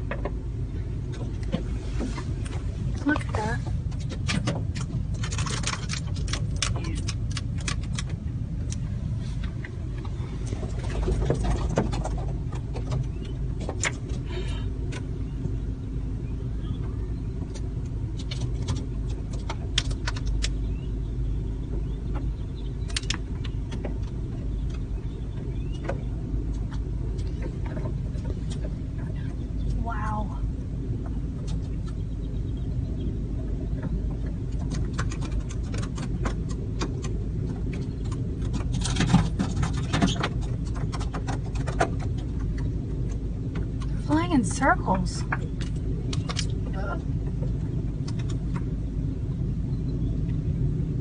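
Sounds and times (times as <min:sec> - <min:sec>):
low rumble inside car: 0:00.0 - 0:51.0
blackbirds clicking and squeaking: 0:02.4 - 0:50.9.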